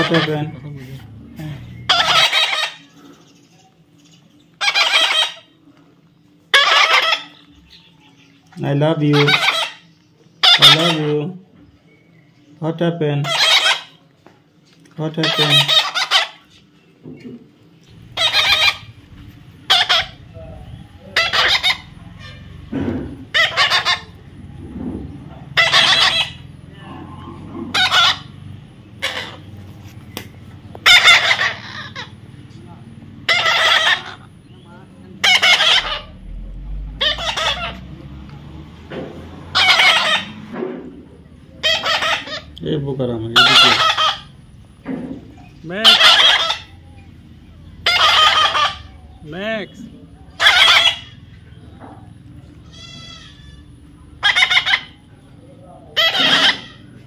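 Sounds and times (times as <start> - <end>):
bird calling loudly: 0.0 - 0.6, 1.4 - 3.1, 4.5 - 5.6, 6.5 - 11.4, 13.2 - 14.0, 15.0 - 17.3, 17.9 - 38.0, 39.4 - 40.6, 41.2 - 57.0
chickens clucking and squawking: 0.0 - 12.5, 13.1 - 14.2, 15.1 - 57.0.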